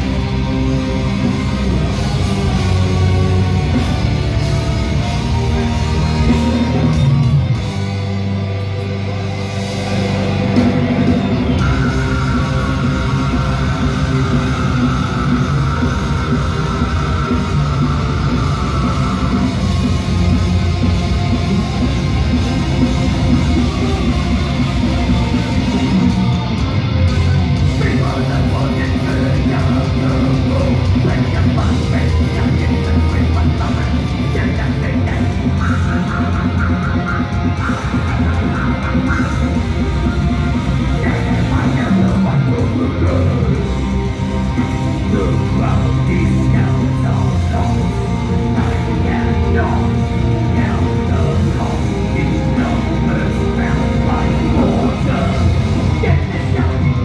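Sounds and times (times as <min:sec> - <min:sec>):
heavy metal band playing live: 0:00.0 - 0:57.0
vocalist singing: 0:08.7 - 0:26.6, 0:27.2 - 0:57.0.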